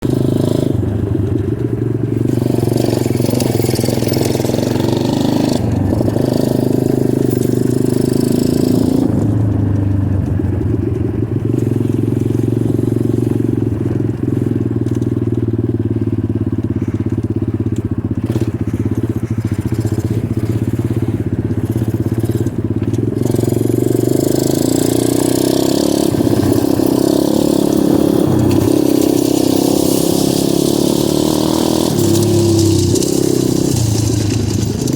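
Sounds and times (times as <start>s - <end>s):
dirt bike engine revving: 0.0s - 15.9s, 18.1s - 34.9s.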